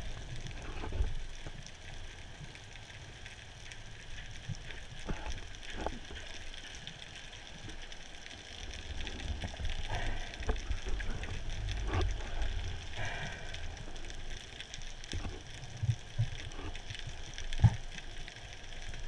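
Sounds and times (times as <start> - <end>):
crackle of fine clicks: 0.0 - 19.0
underwater rumble of moving water: 0.0 - 19.0.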